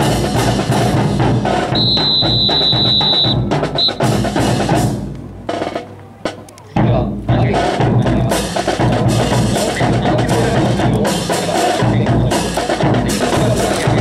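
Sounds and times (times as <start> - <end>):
bass and snare drums marching: 0.0 - 14.0.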